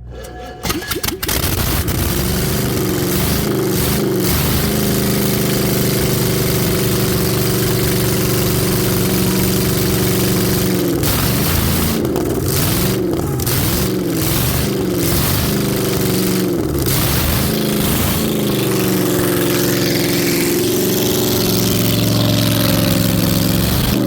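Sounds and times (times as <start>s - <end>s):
engine running loud: 0.0s - 24.0s.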